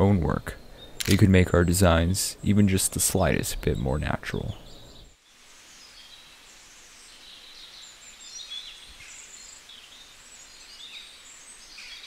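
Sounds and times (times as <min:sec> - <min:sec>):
birds chirping and twittering: 0:00.0 - 0:12.0
soft outdoor hiss: 0:00.0 - 0:12.0.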